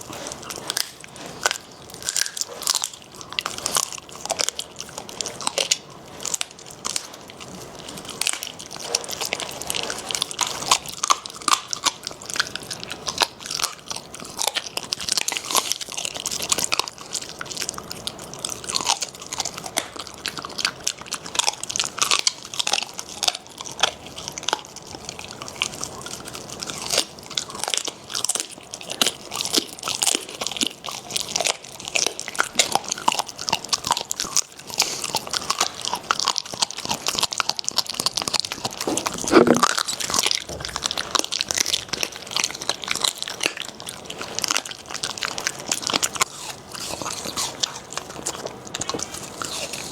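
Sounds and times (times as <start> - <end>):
dogs crunching bones: 0.0 - 49.9.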